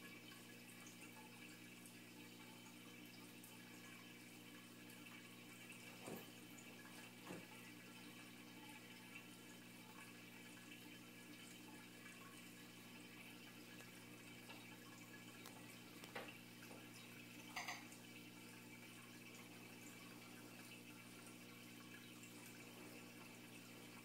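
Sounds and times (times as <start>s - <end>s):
aquarium pump hum: 0.0s - 24.0s
water trickling: 0.0s - 24.0s.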